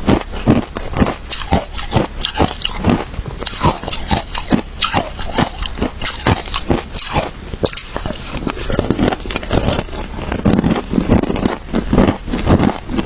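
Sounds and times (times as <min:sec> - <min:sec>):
shaved ice crunching: 0:01.3 - 0:12.5.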